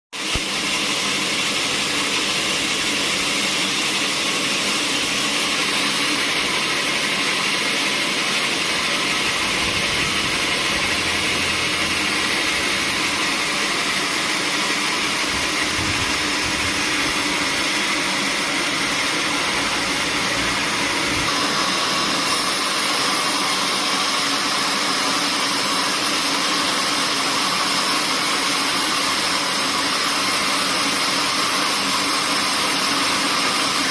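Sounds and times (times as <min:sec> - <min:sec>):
sawmill machinery running: 0:00.2 - 0:33.9.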